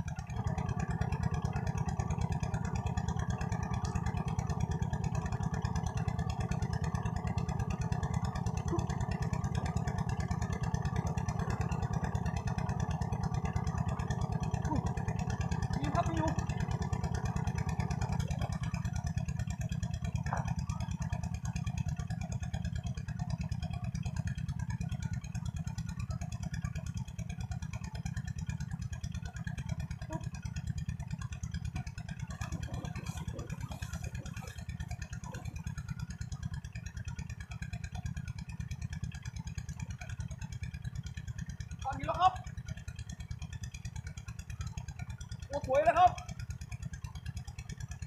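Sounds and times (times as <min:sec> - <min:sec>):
low pulsing drone: 0:00.0 - 0:43.3.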